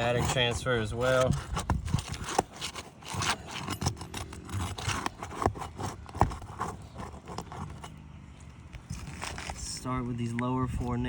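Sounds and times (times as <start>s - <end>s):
shingles scraping and crackling: 0.0s - 10.4s.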